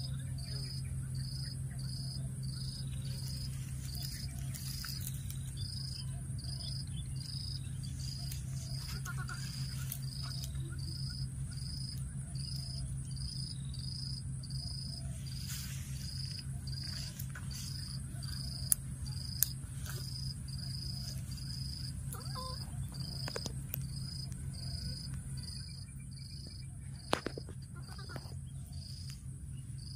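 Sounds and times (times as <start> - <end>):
high insect drone: 0.0 - 29.9
insects chirping: 0.0 - 29.9
steady low hum: 0.0 - 29.9.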